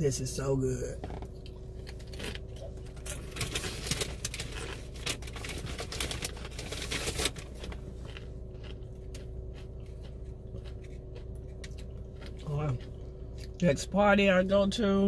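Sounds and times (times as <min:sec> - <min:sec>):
low hum: 0:00.0 - 0:15.0
chip crunching: 0:01.4 - 0:13.6.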